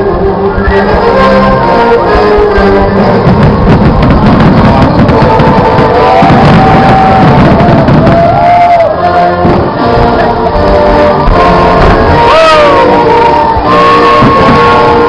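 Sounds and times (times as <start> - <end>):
fireworks booms and crackle: 0.0 - 15.0
loud music with drums: 0.0 - 15.0.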